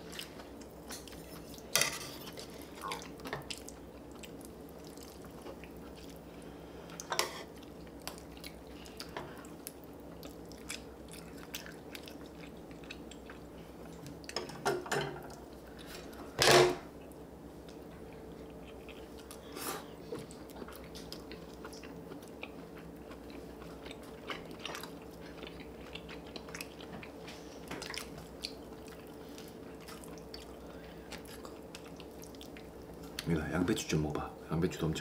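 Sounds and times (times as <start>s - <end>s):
people chewing food: 0.0s - 14.6s, 15.2s - 33.8s
faint steady hum: 0.0s - 35.0s.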